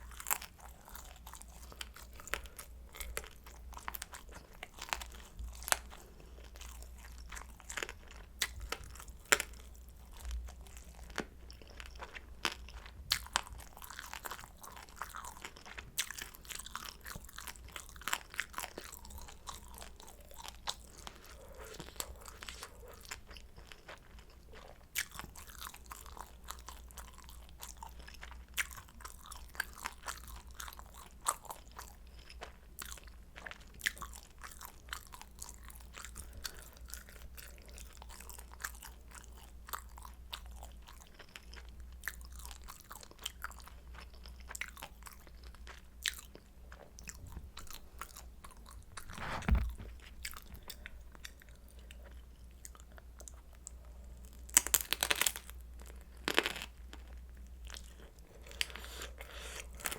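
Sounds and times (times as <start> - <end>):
crunchy chewing: 0.0 - 59.9
faint low hum: 0.0 - 59.9.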